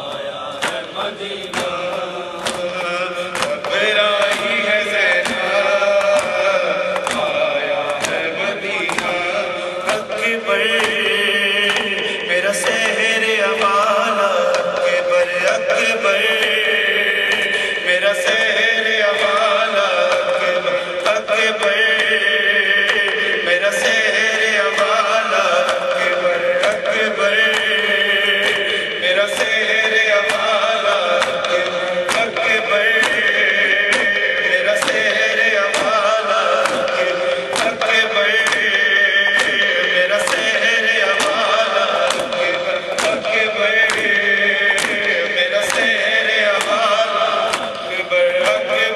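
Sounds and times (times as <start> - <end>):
men beating their chests: 0.0 - 17.6, 18.3 - 48.9
man chanting lament through a pa: 0.0 - 48.9.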